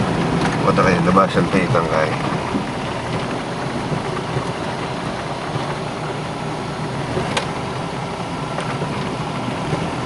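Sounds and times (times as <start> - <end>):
off-road vehicle engine rumbling: 0.0 - 10.0.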